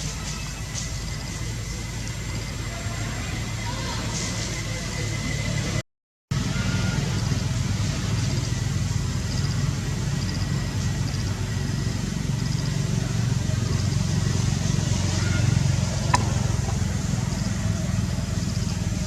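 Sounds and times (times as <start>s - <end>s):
steady low rumbling: 0.0s - 19.0s.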